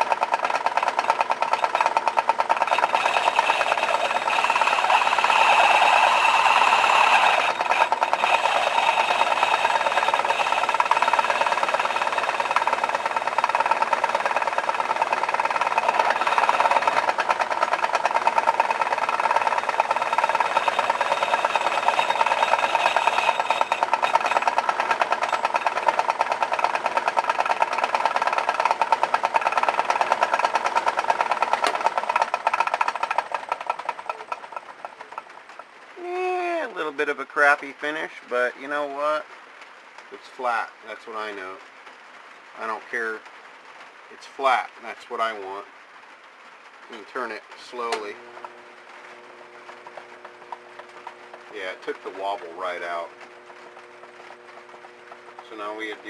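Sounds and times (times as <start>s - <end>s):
lathe whining and rattling: 0.0s - 35.8s, 45.2s - 56.0s.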